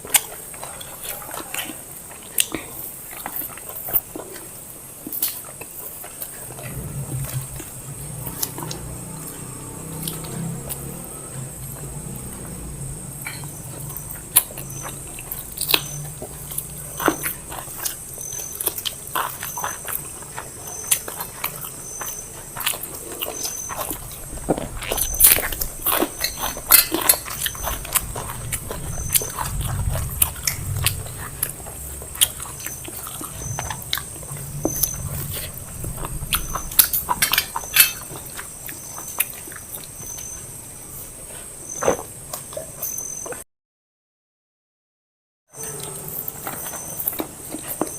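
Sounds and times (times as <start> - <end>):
chewing and lip-smacking: 0.0 - 12.7, 13.4 - 40.5, 45.6 - 47.9.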